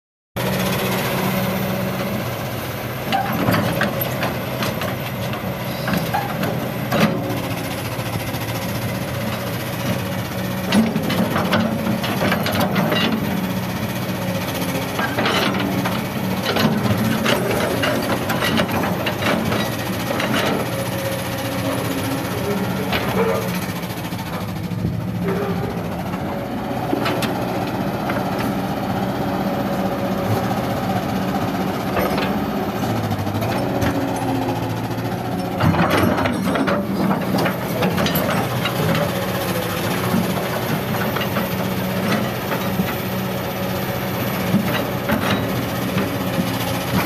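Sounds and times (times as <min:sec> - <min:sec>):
excavator diesel engine running: 0:00.4 - 0:47.0.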